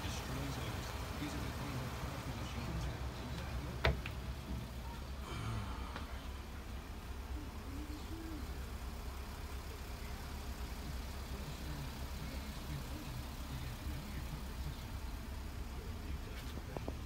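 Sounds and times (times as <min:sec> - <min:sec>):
van engine rumbling: 0:00.0 - 0:17.0.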